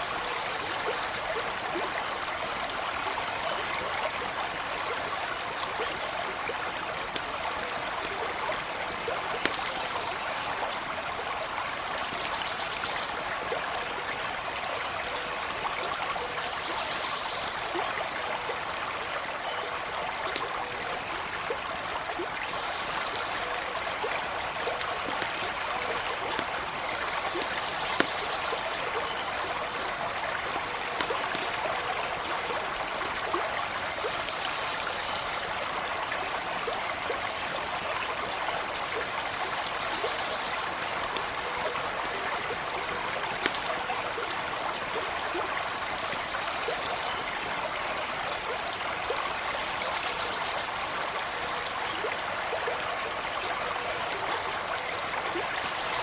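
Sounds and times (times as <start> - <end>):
campfire crackling and popping: 0.0 - 56.0
stream running over stones: 0.0 - 56.0.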